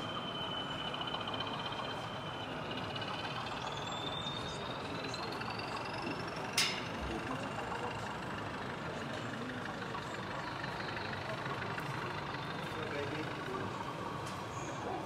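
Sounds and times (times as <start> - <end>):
hall hubbub: 0.0 - 15.0.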